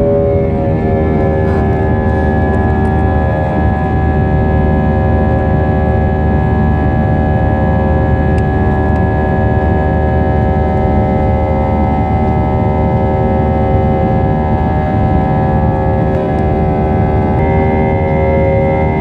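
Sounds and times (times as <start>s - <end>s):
jet engine rumble in cabin: 0.0s - 19.0s
jet engine whining tones: 0.0s - 19.0s.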